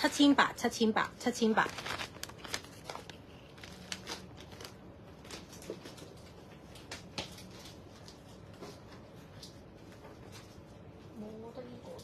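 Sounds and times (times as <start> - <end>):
faint room tone: 0.0 - 12.0.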